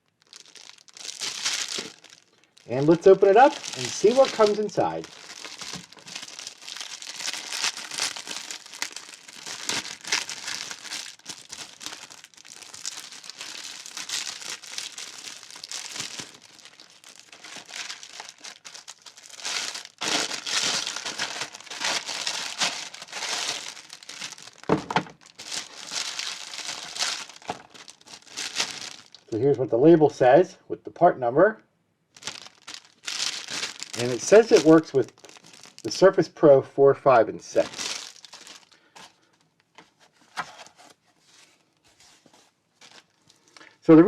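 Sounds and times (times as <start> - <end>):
packaging crinkling and rustling: 0.0 - 29.3, 32.1 - 36.0, 37.6 - 43.8.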